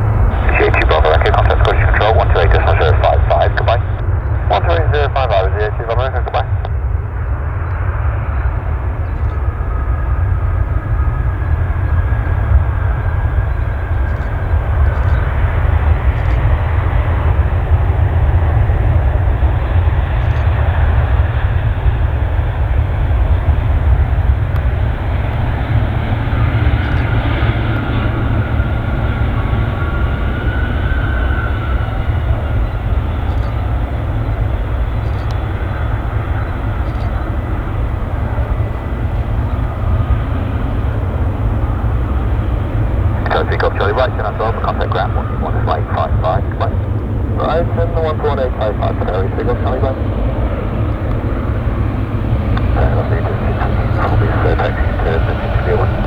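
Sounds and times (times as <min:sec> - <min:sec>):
faint engine whine: 0:00.0 - 0:56.0
jet engines rumbling: 0:00.0 - 0:56.0.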